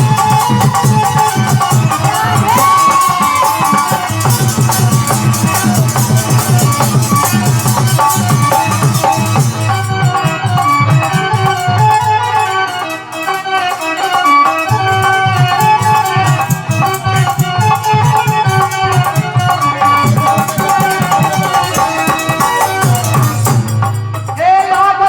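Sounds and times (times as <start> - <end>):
hand drum: 0.0 - 13.0, 13.6 - 25.0
held melody line: 0.0 - 25.0
rattling percussion: 0.0 - 25.0.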